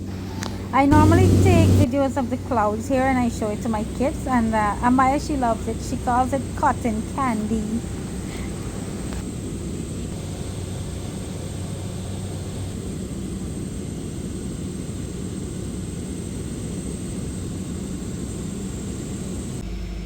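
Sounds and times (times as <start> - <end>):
small airplane engine drone: 0.0 - 20.0.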